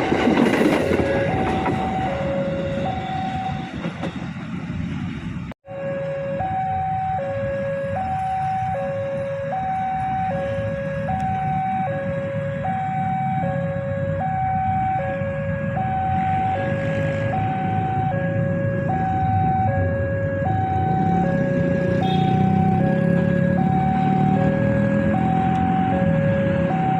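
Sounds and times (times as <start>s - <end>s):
two-tone hi-lo siren: 0.0s - 4.4s, 5.6s - 26.9s.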